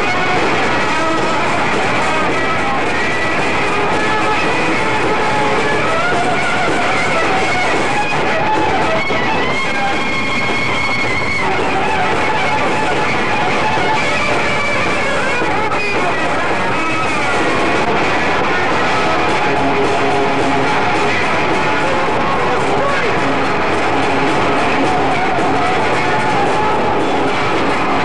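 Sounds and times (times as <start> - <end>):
electric guitar lead bending notes: 0.0 - 28.0
live rock band playing: 0.0 - 28.0.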